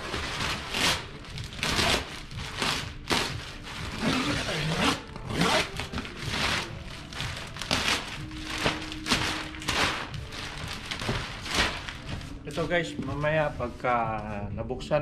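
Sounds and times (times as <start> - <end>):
plastic wrap rustling and crinkling: 0.0 - 14.5.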